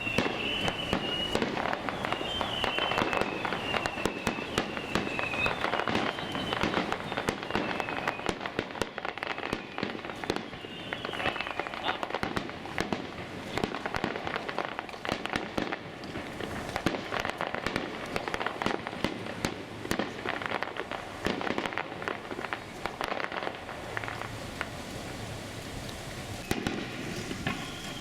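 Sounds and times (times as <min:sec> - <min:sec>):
fireworks popping and banging: 0:00.0 - 0:25.2, 0:26.4 - 0:28.0.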